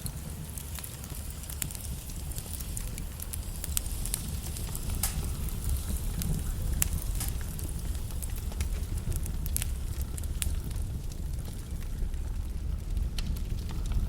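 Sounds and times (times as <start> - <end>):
log fire crackling and popping: 0.0 - 14.0
low rumble of flames: 0.0 - 14.0.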